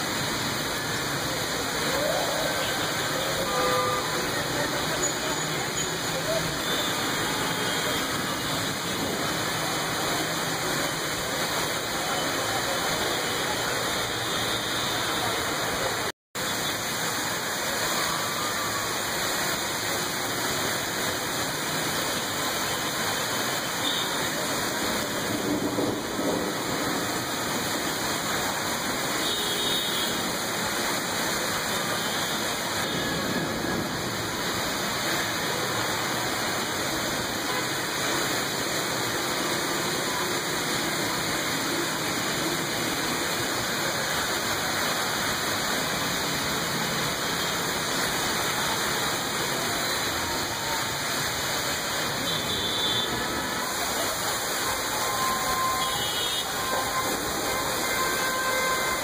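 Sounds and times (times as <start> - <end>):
heavy rain falling: 0.0 - 59.0
running water: 0.0 - 59.0.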